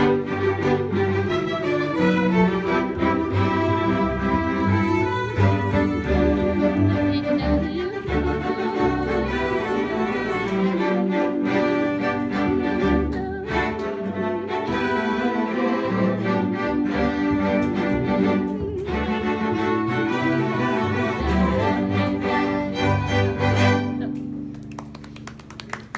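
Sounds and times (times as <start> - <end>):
string ensemble playing: 0.0 - 25.9.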